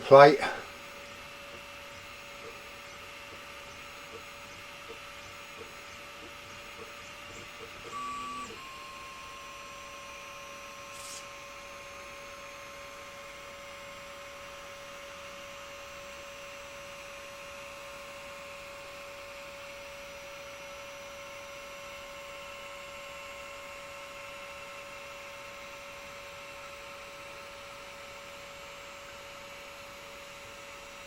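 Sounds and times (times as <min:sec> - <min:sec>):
laser engraver humming: 0:00.0 - 0:31.0.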